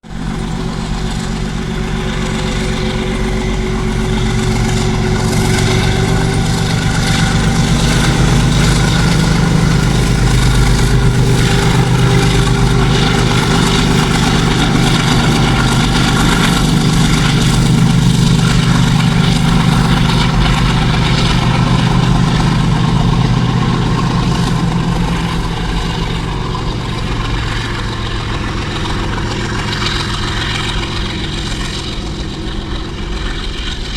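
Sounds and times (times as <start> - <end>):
diesel locomotive engine humming: 0.0 - 33.9.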